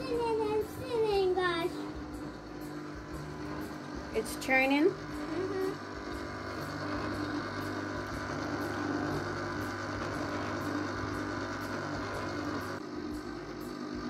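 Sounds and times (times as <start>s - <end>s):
ice cream maker motor humming: 0.0s - 14.0s.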